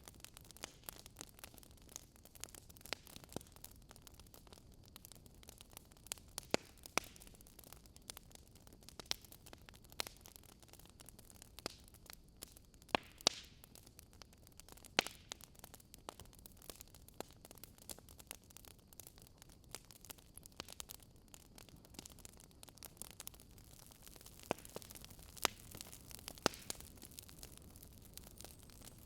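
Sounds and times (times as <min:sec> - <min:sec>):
burning logs crackling and popping: 0:00.0 - 0:29.0
faint steady hiss: 0:00.0 - 0:29.0.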